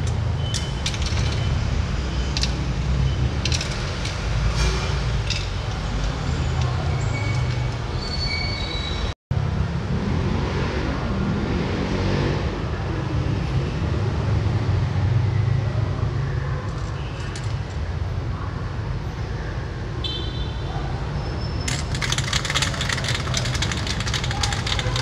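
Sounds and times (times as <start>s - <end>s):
low traffic rumble: 0.0s - 20.0s, 20.8s - 25.0s.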